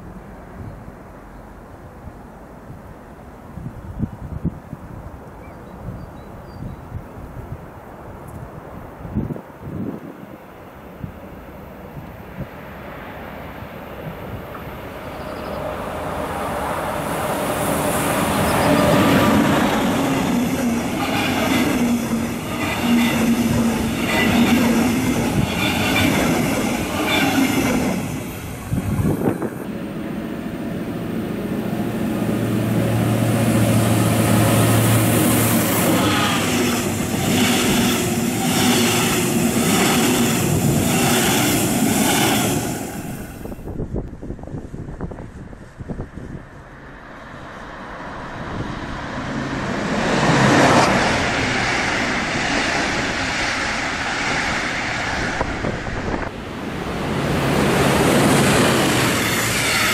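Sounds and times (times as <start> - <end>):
diesel locomotive engine: 11.6 - 59.9.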